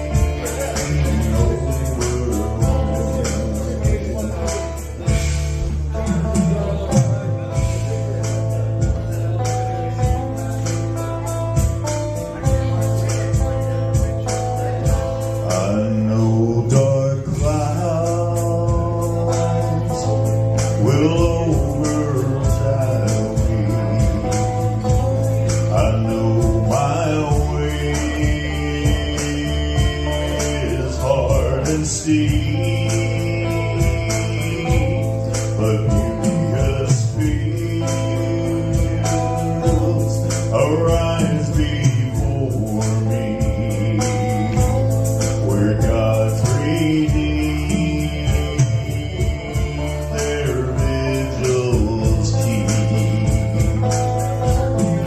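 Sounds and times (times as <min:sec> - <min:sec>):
bass: 0:00.0 - 0:55.0
country gospel band music: 0:00.0 - 0:55.0
drum beat: 0:00.0 - 0:55.0
guitar: 0:00.0 - 0:55.0
man singing: 0:00.0 - 0:55.0
sliding lead melody: 0:00.0 - 0:55.0.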